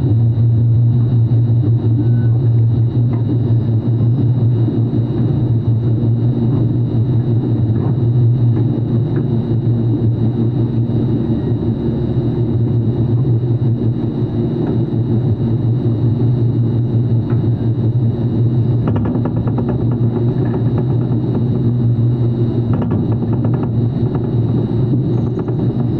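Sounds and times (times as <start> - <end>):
machine humming with high whine: 0.0 - 25.9.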